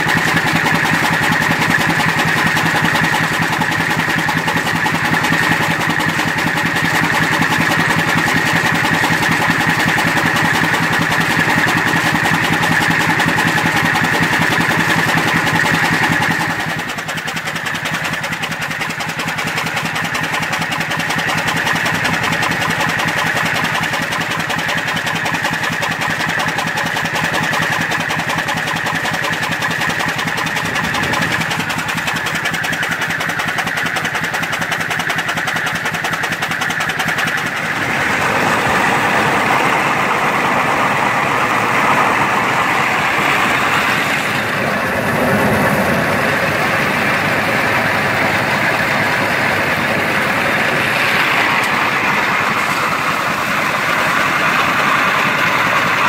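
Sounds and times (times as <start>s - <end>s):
feed grinder grinding corn: 0.0s - 56.0s
steam engine running: 0.0s - 56.0s.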